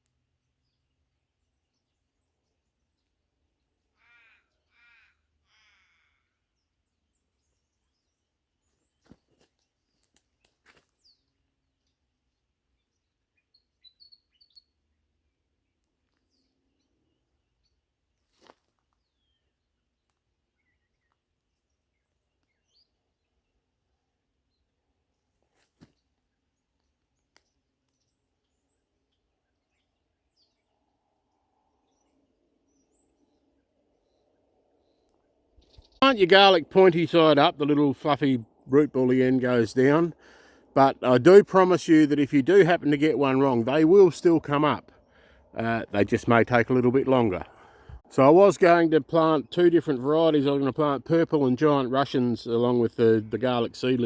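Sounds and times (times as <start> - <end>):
faint distant birds chirping: 0.0 - 54.0.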